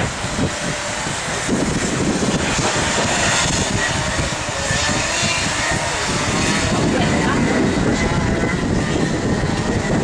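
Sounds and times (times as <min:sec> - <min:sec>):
kart engines buzzing: 0:00.0 - 0:10.0
wind rumble on microphone: 0:00.0 - 0:10.0.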